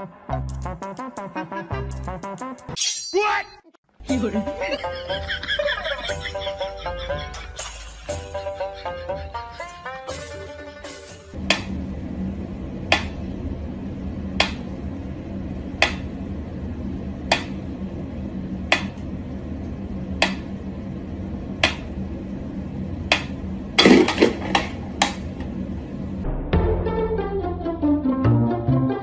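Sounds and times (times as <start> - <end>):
steady low hum: 4.1 - 27.9.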